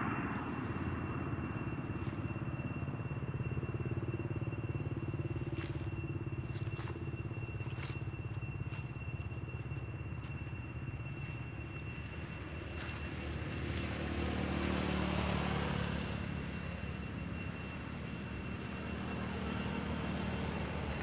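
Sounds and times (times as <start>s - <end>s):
low engine rumble: 0.0s - 21.0s
thin high whine: 0.0s - 21.0s.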